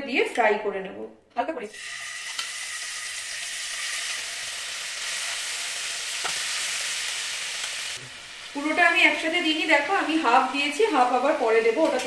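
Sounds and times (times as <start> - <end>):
chicken sizzling in hot oil: 1.7 - 12.0.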